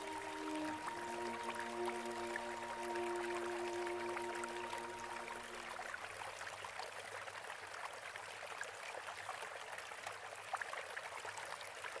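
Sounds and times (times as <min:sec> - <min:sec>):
water drips and splashes: 0:00.0 - 0:12.0
water running and trickling: 0:00.0 - 0:12.0.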